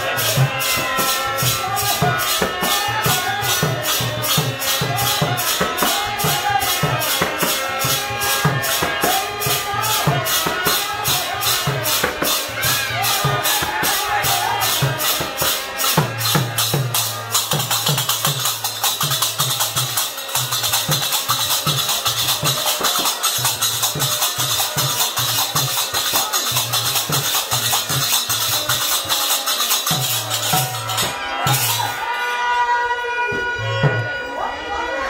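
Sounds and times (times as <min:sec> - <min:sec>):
drum beating: 0:00.0 - 0:32.3
hand cymbals clashing: 0:00.0 - 0:32.3.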